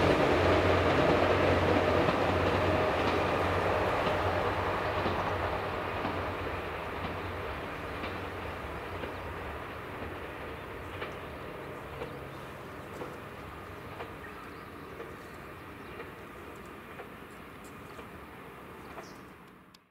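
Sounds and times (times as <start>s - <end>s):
diesel train engine and wheels: 0.0s - 19.9s.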